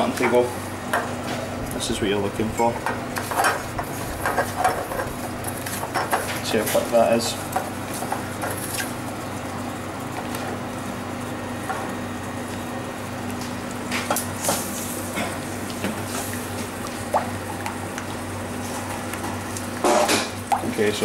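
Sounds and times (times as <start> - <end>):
kitchen hum: 0.0 - 21.0.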